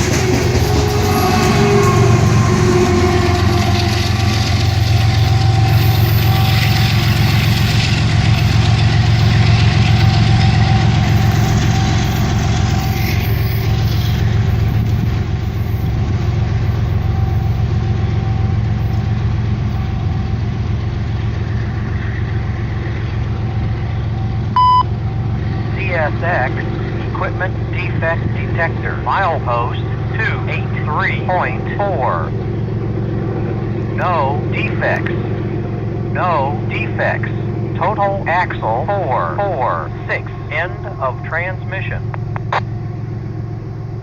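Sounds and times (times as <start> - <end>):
diesel locomotive engine rumbling: 0.0 - 44.0.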